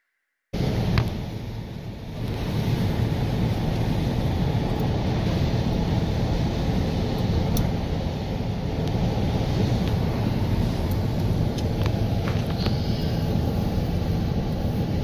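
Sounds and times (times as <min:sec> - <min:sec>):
car engine and road noise: 0:00.5 - 0:15.0.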